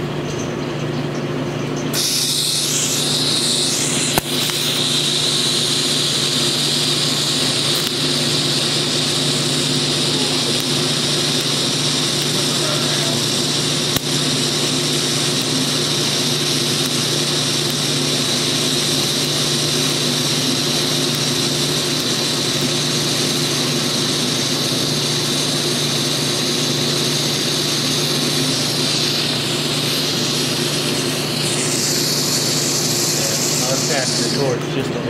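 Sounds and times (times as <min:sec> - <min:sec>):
welding arc buzzing hiss: 0:01.9 - 0:35.0.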